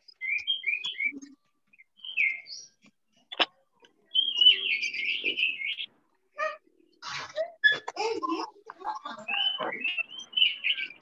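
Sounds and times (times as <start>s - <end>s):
birds chirping: 0.0s - 7.0s, 8.8s - 11.0s.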